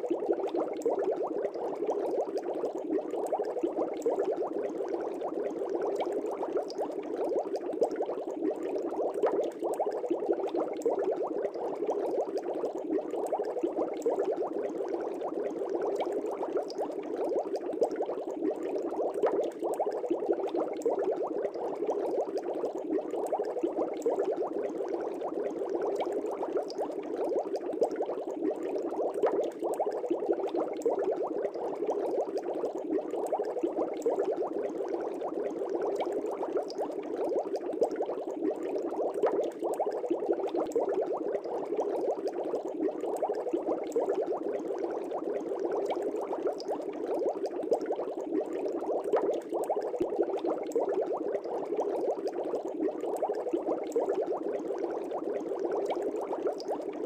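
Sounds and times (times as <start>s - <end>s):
air bubbles in aquarium water: 0.0s - 57.0s.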